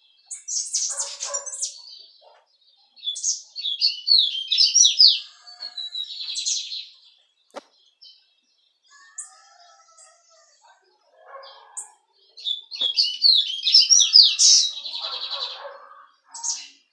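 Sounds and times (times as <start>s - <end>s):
caged songbird singing: 0.0s - 16.9s.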